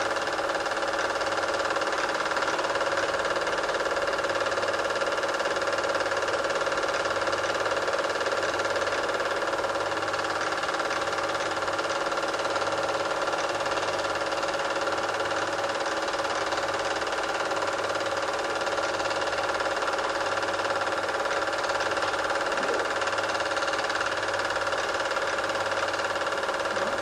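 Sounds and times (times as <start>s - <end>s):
film projector whirring: 0.0s - 27.0s.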